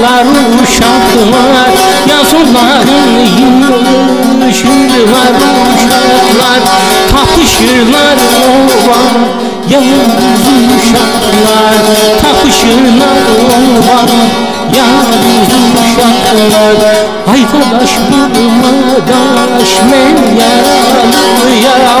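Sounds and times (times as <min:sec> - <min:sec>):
folk music with wavering melody: 0:00.0 - 0:22.0.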